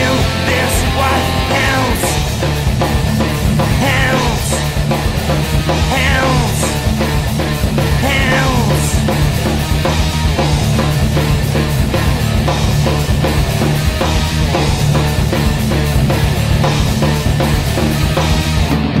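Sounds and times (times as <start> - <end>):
instrumental rock music: 0.0 - 19.0.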